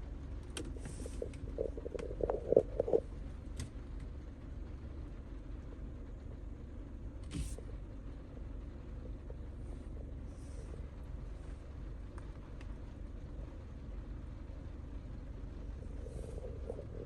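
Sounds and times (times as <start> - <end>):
car interior engine rumble: 0.0 - 17.0.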